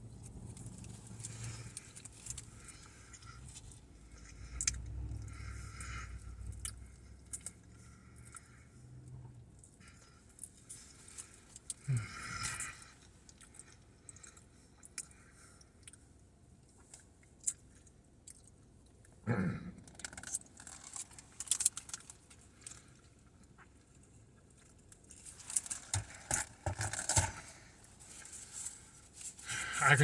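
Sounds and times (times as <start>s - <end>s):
person chewing food: 0.1s - 8.8s, 9.4s - 19.1s, 19.9s - 29.8s.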